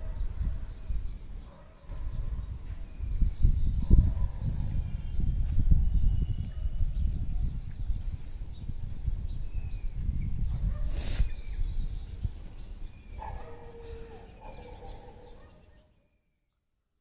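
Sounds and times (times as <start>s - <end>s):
wind rumble on microphone: 0.0s - 15.5s
birds chirping: 0.0s - 16.7s.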